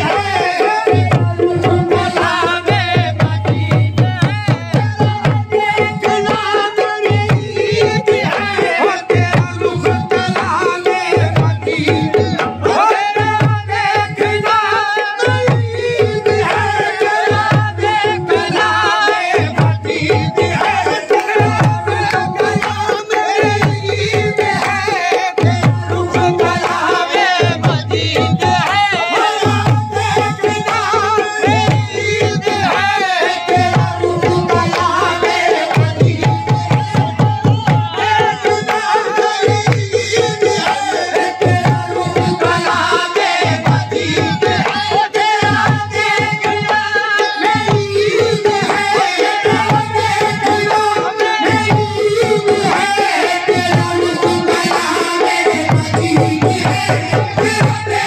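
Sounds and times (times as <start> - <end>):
tabla rhythm: 0.0 - 58.0.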